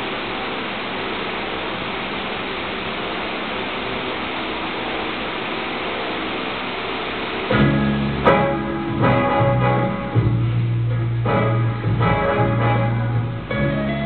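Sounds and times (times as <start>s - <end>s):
steady static-like rushing noise: 0.0s - 14.0s.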